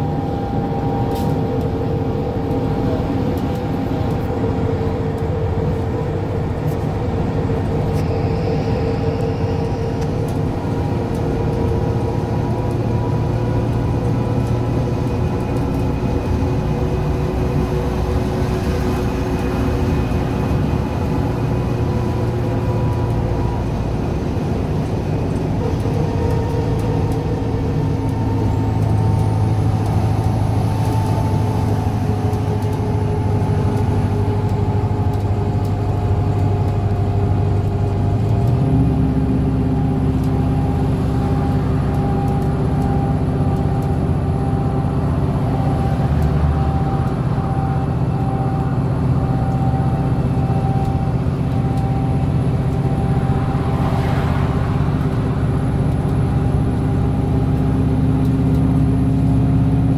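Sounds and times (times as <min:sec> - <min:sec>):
bus engine drone: 0:00.0 - 0:59.9
tyre and road noise: 0:00.0 - 0:59.9.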